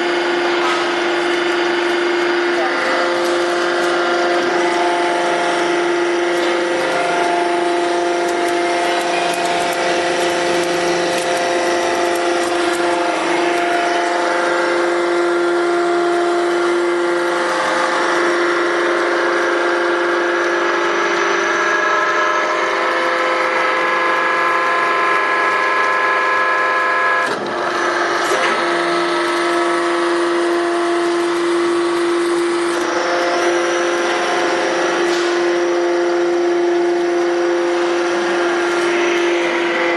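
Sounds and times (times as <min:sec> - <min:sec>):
hydraulic pump motor whining: 0:00.0 - 0:39.9.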